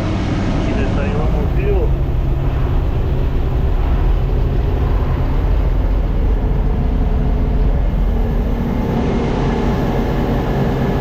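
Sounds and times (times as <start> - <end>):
farm machine engine rumbling: 0.6 - 11.0.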